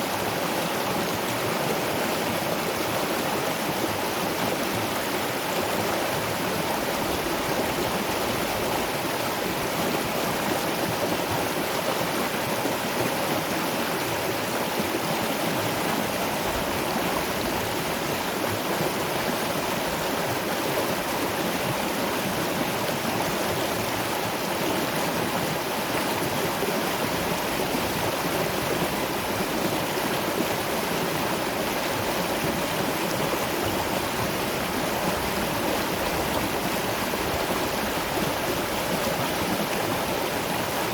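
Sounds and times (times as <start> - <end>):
waterfall and river rushing: 0.0 - 40.9.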